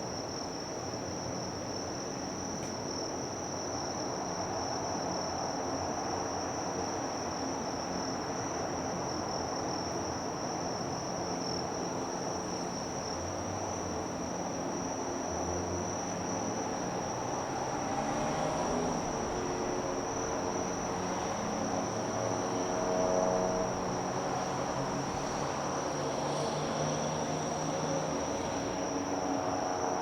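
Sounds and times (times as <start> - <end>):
insects chirring: 1.2 - 30.0.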